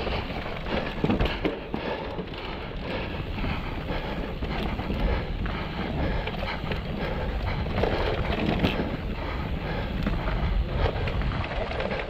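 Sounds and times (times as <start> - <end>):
bike rattling: 0.0 - 12.0
wind rumbling on microphone: 0.0 - 12.0.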